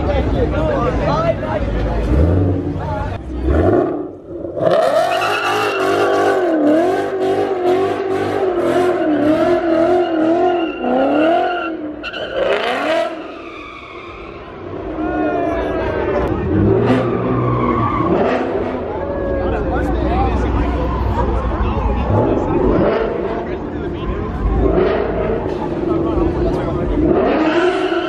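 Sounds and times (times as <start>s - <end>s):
car engine revving: 0.0s - 13.5s, 14.1s - 28.0s.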